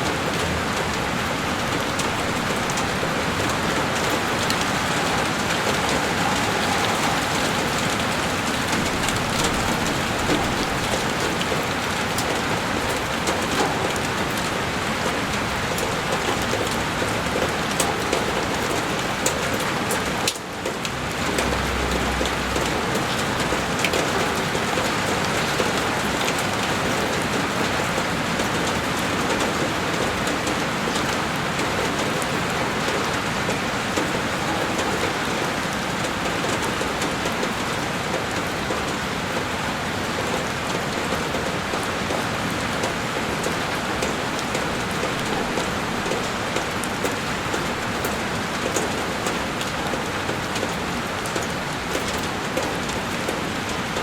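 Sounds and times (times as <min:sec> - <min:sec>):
heavy rain on window glass: 0:00.0 - 0:54.0.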